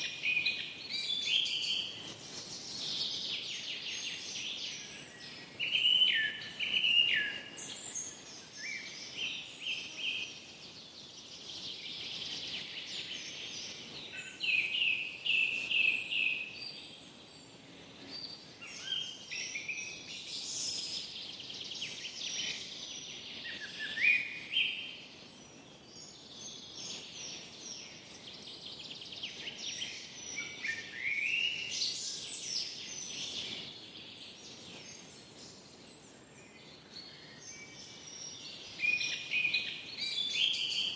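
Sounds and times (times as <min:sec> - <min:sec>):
faint background hiss: 0:00.0 - 0:40.9
songbirds singing: 0:00.0 - 0:40.9.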